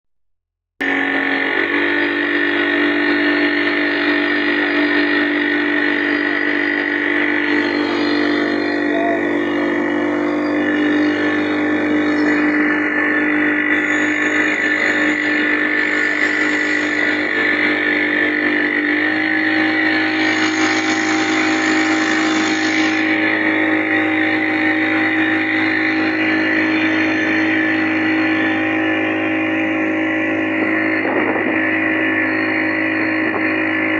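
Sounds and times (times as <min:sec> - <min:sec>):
engine running: 0:00.8 - 0:33.9.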